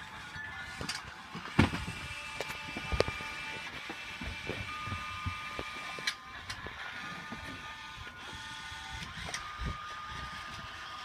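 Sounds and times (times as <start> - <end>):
toy electric motors whining: 0.0 - 11.0.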